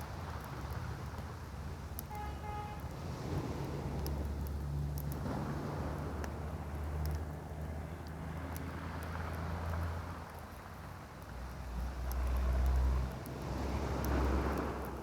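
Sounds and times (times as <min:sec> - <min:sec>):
campfire crackling and popping: 0:02.9 - 0:15.0.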